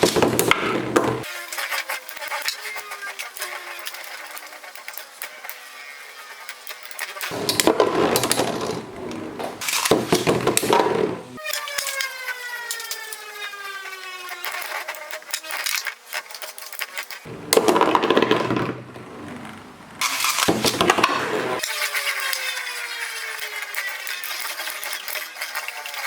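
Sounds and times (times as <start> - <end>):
spinning tops clashing and rattling: 0.0 - 5.7, 6.4 - 12.2, 14.3 - 18.7, 20.0 - 26.0
whine of spinning top: 0.0 - 26.0.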